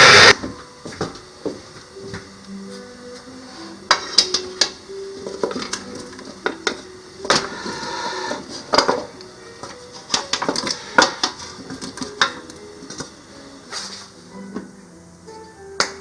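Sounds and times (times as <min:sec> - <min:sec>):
soft background music: 0:00.3 - 0:16.0.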